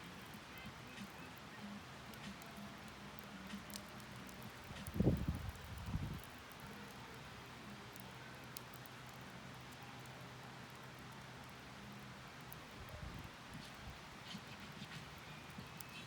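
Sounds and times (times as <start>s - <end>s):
fire hissing softly: 0.0s - 16.0s
wood fire crackling: 0.0s - 16.0s.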